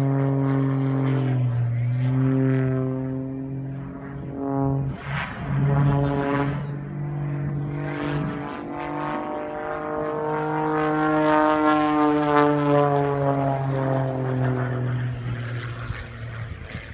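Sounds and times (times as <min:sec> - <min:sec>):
small plane engine droning: 0:00.0 - 0:16.9.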